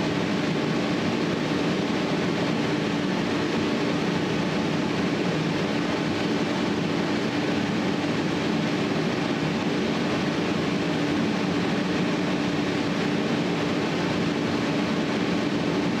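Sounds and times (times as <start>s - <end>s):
mechanical drone with low hum: 0.0s - 16.0s.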